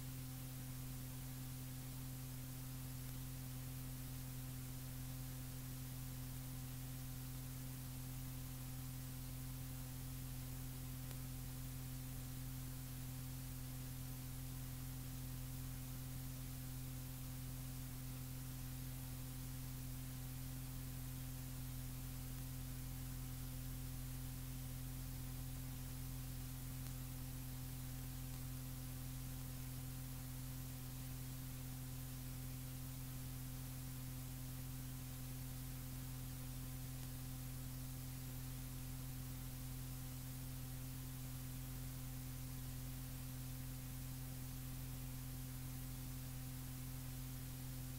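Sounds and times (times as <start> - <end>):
electrical mains hum: 0.0 - 47.9
tape hiss: 0.0 - 47.9.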